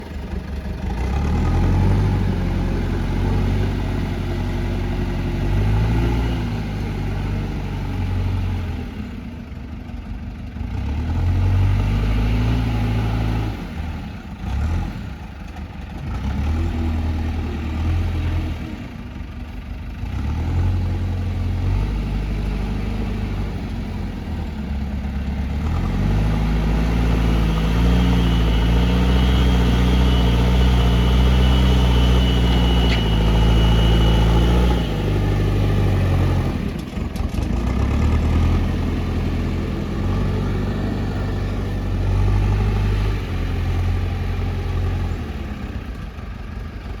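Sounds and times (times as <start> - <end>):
loader diesel engine revving: 0.0 - 9.3, 10.6 - 47.0.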